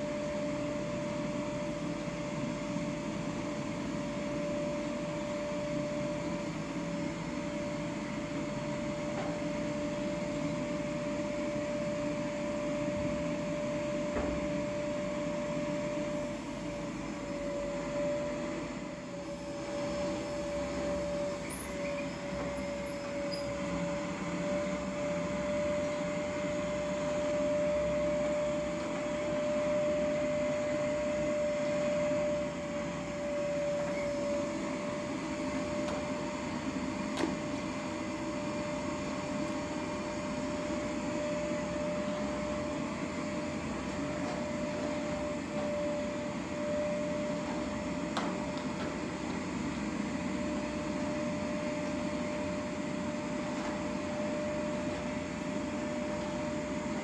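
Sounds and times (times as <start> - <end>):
mechanical hum with whine: 0.0 - 57.0.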